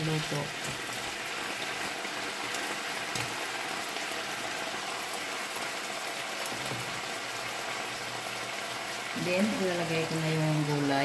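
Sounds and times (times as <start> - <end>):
chicken sizzling in a wok: 0.0 - 11.0.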